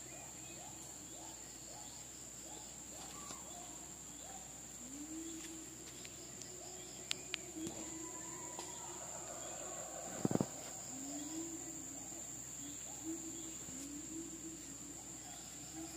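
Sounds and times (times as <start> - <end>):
high-pitched insect drone: 0.0 - 15.9.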